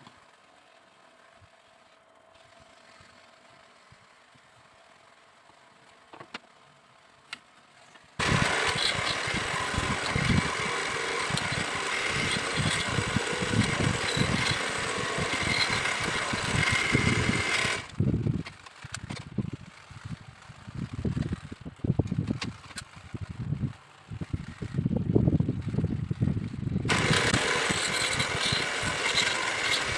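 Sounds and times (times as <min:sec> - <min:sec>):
small power tool running: 0:00.0 - 0:06.1, 0:07.8 - 0:29.9.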